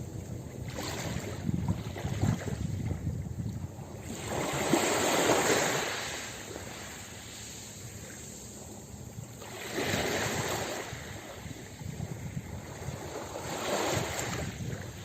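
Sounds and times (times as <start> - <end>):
waves breaking on a beach: 0.6 - 2.8, 4.0 - 8.6, 9.4 - 15.0.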